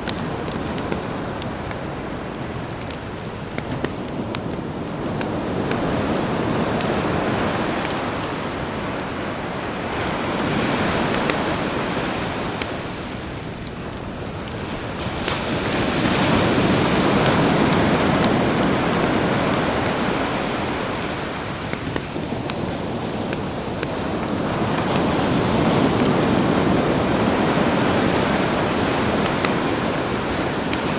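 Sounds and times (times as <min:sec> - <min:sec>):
campfire crackling: 0:00.0 - 0:30.9
sea waves washing in: 0:00.0 - 0:30.9.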